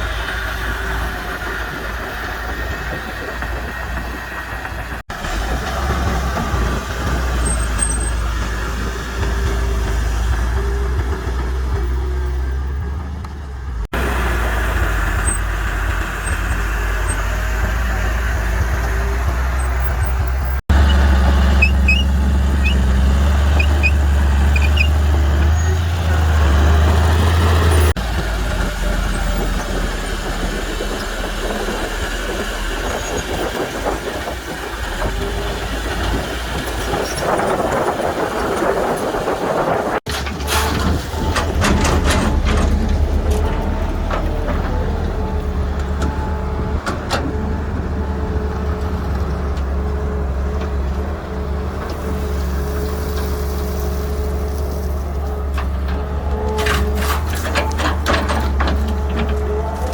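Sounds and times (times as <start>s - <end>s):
heavy diesel engines droning: 0.0s - 59.9s.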